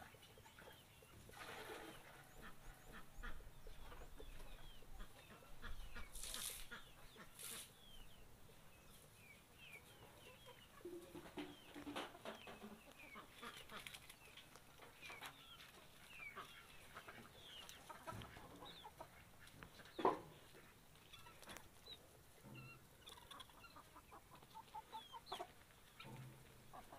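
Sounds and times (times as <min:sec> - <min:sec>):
poultry clucking: 0:00.0 - 0:26.9.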